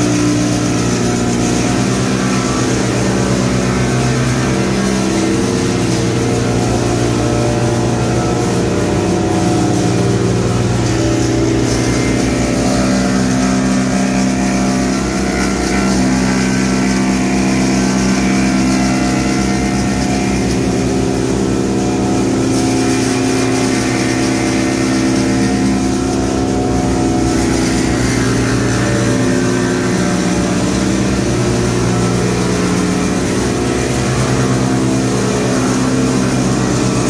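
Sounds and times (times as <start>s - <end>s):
wood chipper running: 0.0s - 37.0s.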